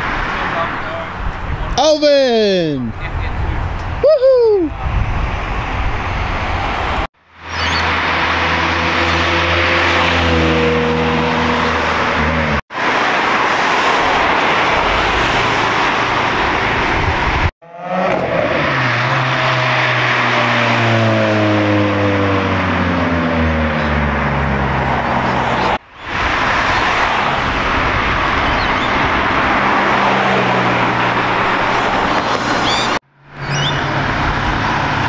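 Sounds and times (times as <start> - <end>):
sports car engines accelerating: 5.4 - 35.0.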